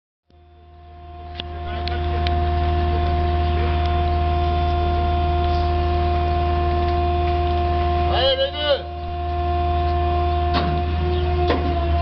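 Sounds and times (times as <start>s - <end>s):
machine humming with whining tones: 0.3s - 12.0s.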